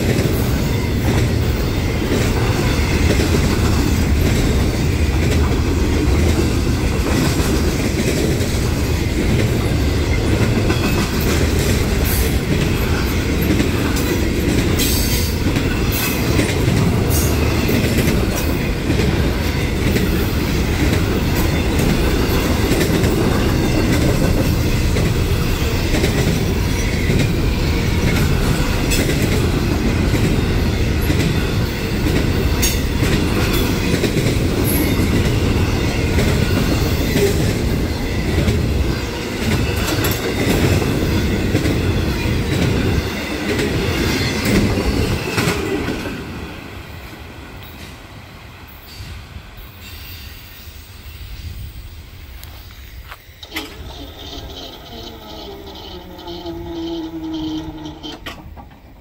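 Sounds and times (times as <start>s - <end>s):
wheels clacking over rail joints: 0.0s - 46.2s, 53.0s - 59.0s
freight train rumbling past: 0.0s - 59.0s.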